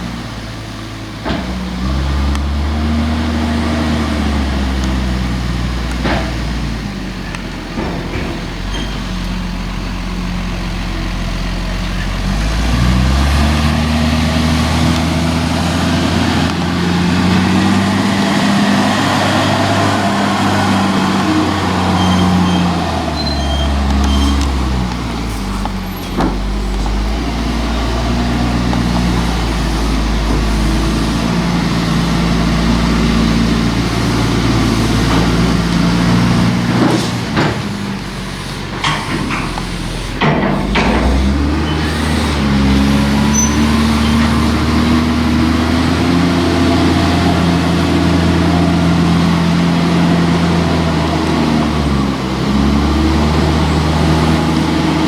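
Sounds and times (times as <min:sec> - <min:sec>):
heavy vehicle engine revving: 0:00.0 - 0:55.0.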